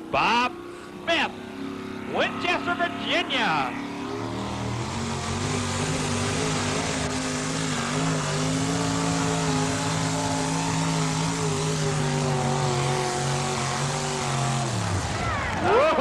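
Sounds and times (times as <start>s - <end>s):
engine revving at high rpm: 0.0s - 16.0s.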